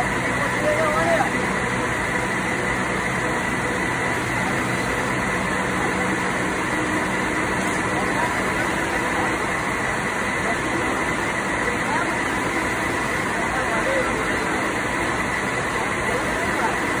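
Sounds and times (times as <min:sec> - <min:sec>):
machinery droning: 0:00.0 - 0:17.0.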